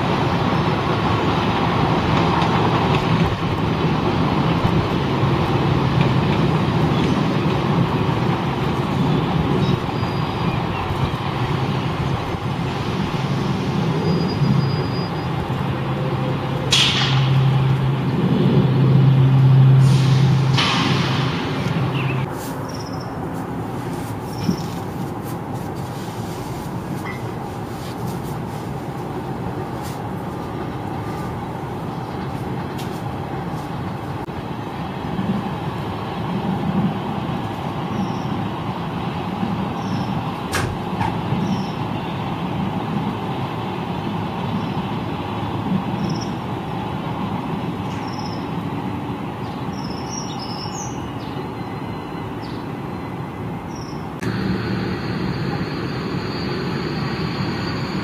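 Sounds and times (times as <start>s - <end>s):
train wheel clatter: 0.0s - 18.7s, 19.8s - 34.4s, 35.0s - 48.7s
electric train rumbling past: 0.0s - 58.0s.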